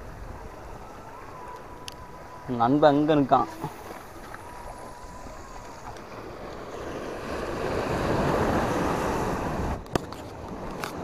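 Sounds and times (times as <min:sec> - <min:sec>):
wind on microphone: 0:00.0 - 0:11.0
waves breaking on rocks: 0:01.2 - 0:11.0.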